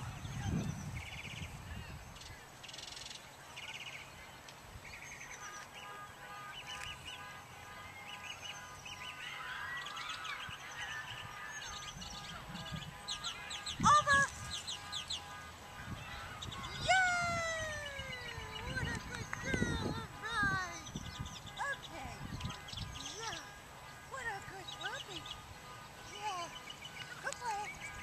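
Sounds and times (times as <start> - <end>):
birds chirping: 0.0 - 28.0
loud honking call: 5.2 - 28.0.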